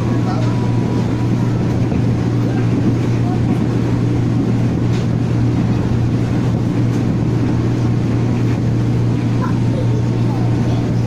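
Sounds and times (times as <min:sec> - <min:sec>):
train running noise: 0:00.0 - 0:11.0.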